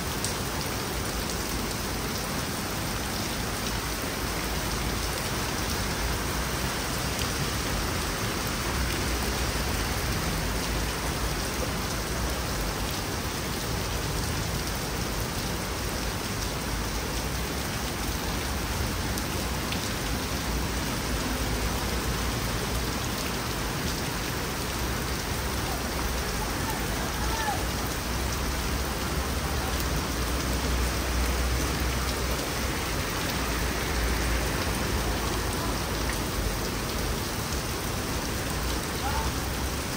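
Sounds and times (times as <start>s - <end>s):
torrential rain on pavement: 0.0s - 39.9s.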